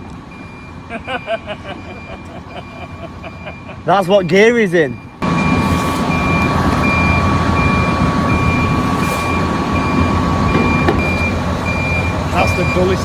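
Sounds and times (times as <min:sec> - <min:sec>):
diesel engine running: 0:00.0 - 0:13.0
reversing alarm beeping: 0:00.3 - 0:13.0.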